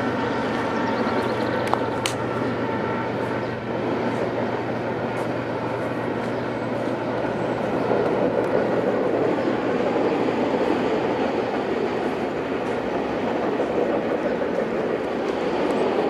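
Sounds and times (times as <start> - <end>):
freight train rumbling over bridge: 0.0 - 16.0.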